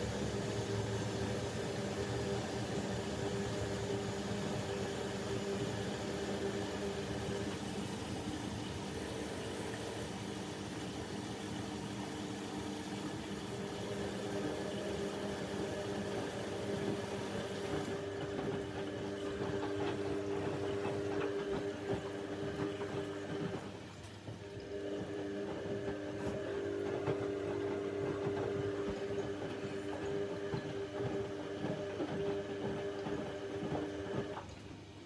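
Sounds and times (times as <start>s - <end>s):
washing machine hum: 0.0s - 35.0s.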